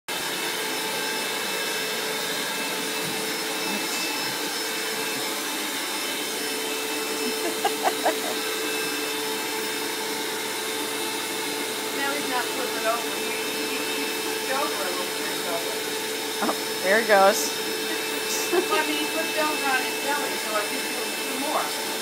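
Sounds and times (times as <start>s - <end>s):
vacuum cleaner running: 0.1s - 22.0s.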